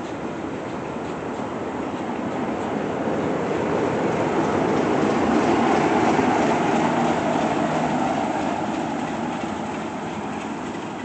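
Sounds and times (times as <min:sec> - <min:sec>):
train running on track: 0:00.0 - 0:11.0.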